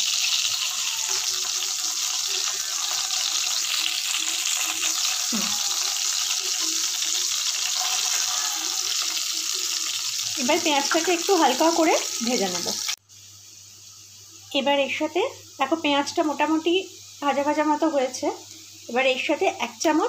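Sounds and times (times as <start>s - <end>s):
oil sizzling in a wok: 0.0s - 20.0s.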